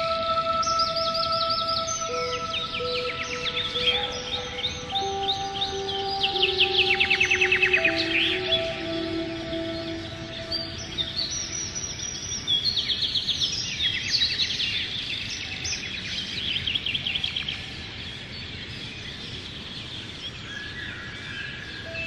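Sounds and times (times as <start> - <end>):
songbirds chirping and trilling: 0.0 - 22.0
steady background hiss: 0.0 - 22.0.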